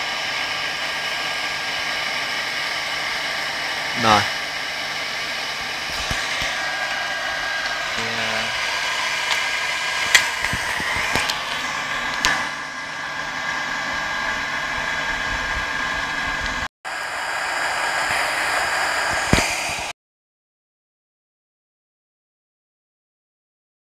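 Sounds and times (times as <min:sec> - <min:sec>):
furnace roaring: 0:00.0 - 0:19.9.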